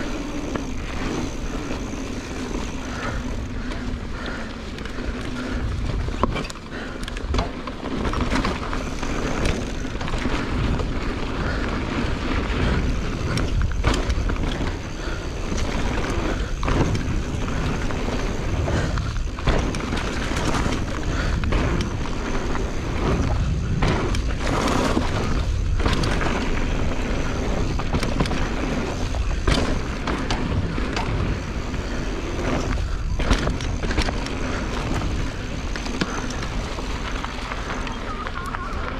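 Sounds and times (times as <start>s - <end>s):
bike rattling over bumps: 0.0s - 38.9s
bike tyres rolling on dirt: 0.0s - 38.9s.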